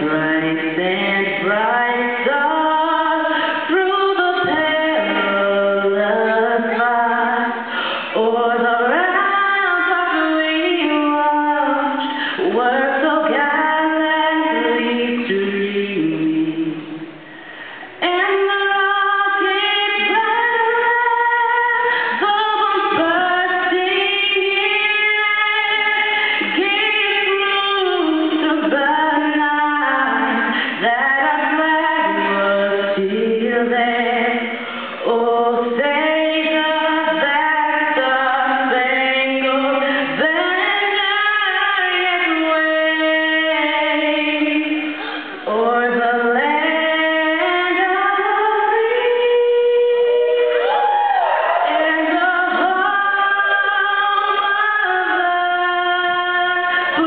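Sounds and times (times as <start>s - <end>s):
girl singing unaccompanied: 0.0s - 17.1s, 18.0s - 50.8s.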